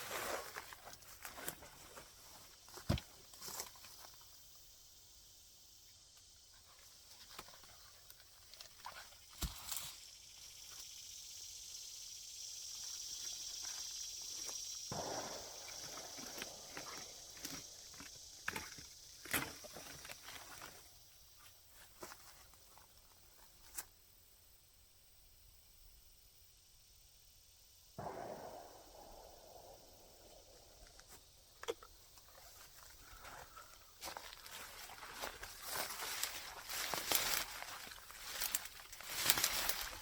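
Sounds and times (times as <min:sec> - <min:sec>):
steady high hiss: 0:00.0 - 0:22.1, 0:23.3 - 0:40.0.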